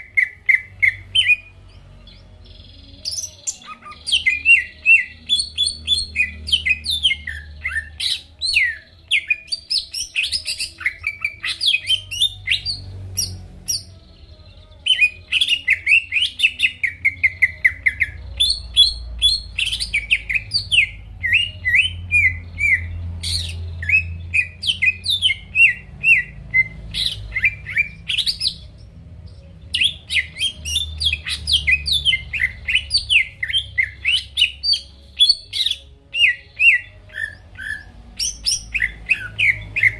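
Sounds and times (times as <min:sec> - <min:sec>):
bird singing fast chirps: 0:00.0 - 0:39.9.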